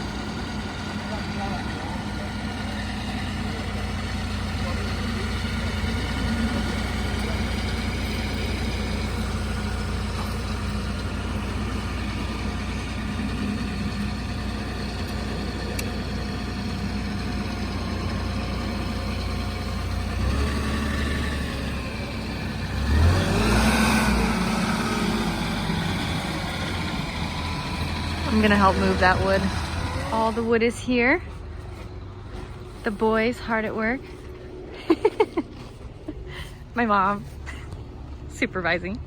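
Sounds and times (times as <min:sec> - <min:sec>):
truck engine idling and revving: 0:00.0 - 0:39.0.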